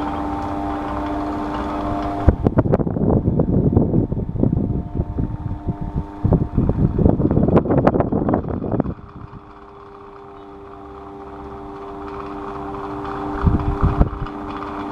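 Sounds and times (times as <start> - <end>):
electric fan humming: 0.0 - 14.9
wind buffeting microphone: 0.0 - 14.9.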